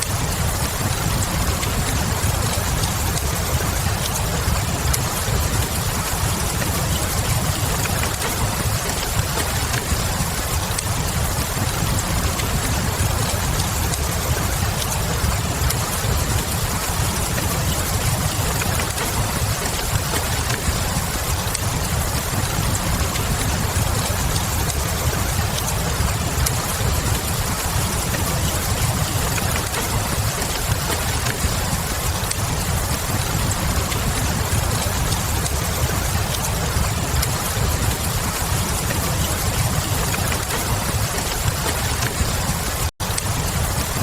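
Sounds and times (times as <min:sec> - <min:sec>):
steady rain: 0:00.0 - 0:44.0
wood fire crackling: 0:00.0 - 0:44.0.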